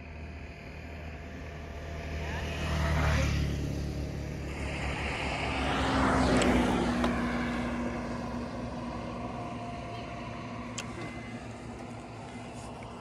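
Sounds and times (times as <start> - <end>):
road and wind noise: 0.0 - 13.0
vehicle passing: 1.1 - 13.0.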